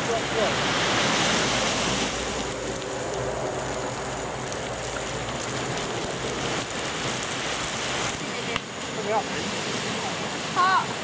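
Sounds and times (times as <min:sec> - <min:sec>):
bonfire hissing: 0:00.0 - 0:11.0
fire crackles: 0:00.0 - 0:11.0.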